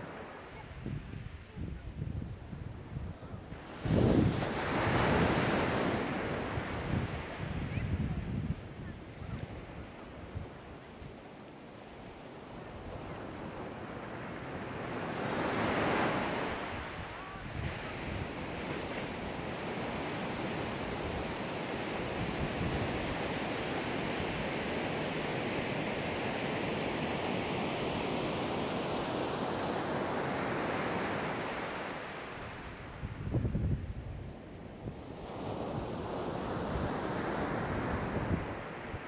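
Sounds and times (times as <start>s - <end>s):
surf washing up shore: 0.0s - 39.0s.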